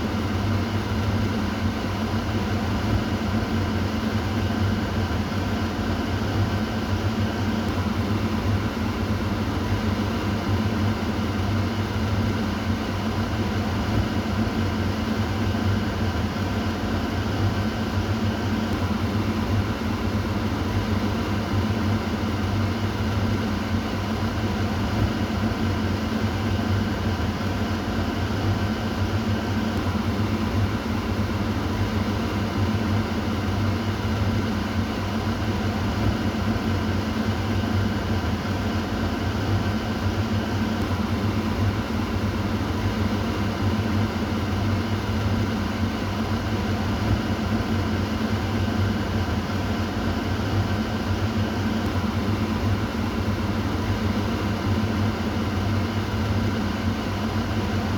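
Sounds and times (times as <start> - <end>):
exhaust fan running: 0.0 - 57.9.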